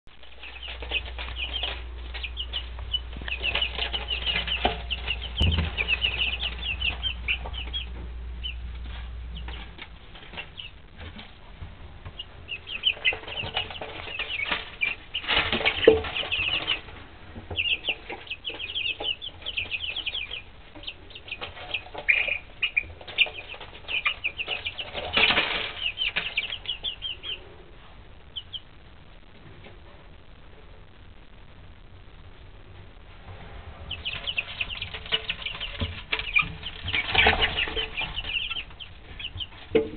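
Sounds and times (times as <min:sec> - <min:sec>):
low hum: 0:00.0 - 0:39.9
chicks peeping: 0:00.1 - 0:31.2, 0:32.4 - 0:39.9.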